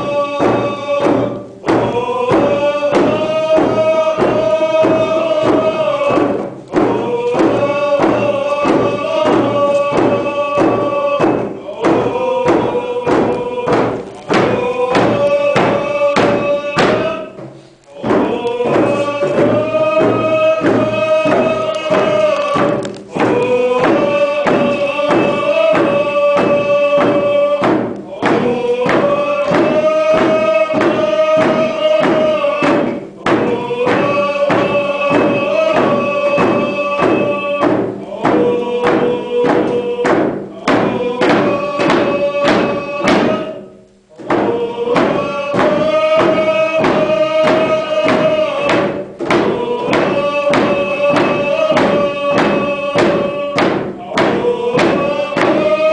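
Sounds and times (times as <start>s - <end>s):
hand drums beating: 0.0s - 55.9s
men singing together: 0.0s - 55.9s.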